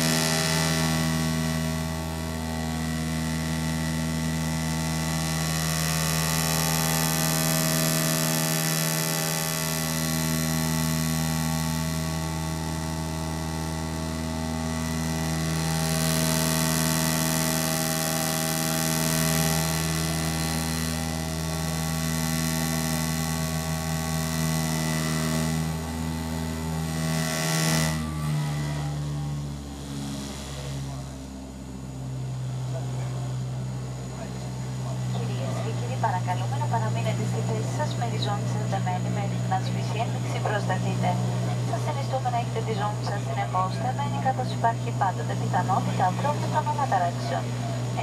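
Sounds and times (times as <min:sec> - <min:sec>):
turboprop engine drone: 0:00.0 - 0:48.0.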